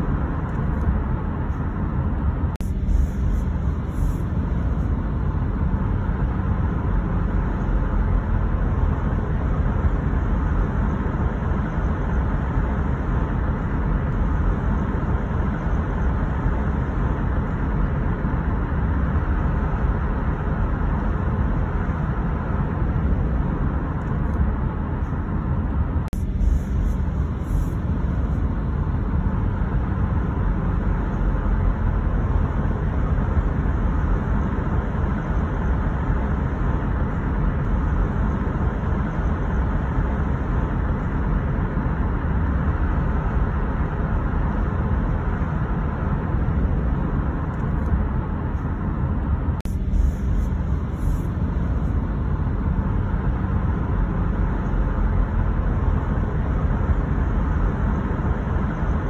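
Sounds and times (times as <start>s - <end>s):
car tyre and engine rumble: 0.0s - 59.0s.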